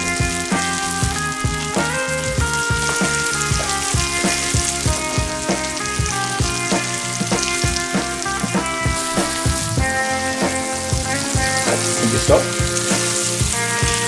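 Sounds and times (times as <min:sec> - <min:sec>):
background music with beat: 0:00.0 - 0:14.0
fish sizzling in frying pan: 0:00.0 - 0:14.0.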